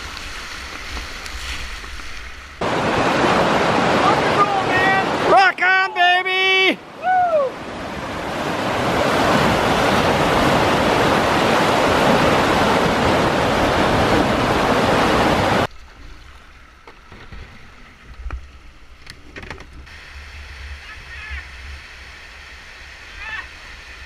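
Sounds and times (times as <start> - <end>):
river rapids rushing: 0.0 - 15.7, 19.9 - 24.0
calm water flowing: 0.0 - 24.0.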